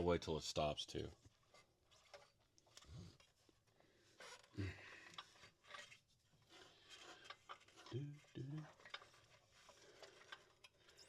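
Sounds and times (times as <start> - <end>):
faint rubbing and clicks: 1.1 - 11.0.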